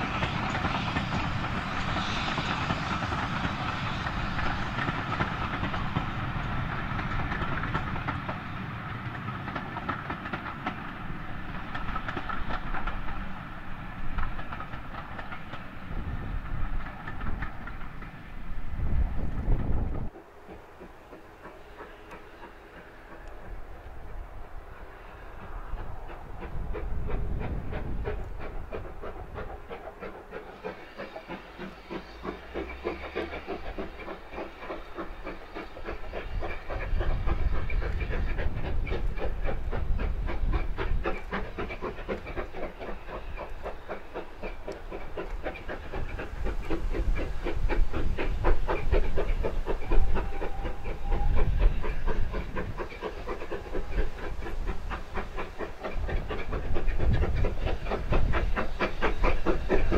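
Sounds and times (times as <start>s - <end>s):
steam locomotive exhaust beats: 0.0s - 59.9s
train rumbling on track: 0.0s - 59.9s.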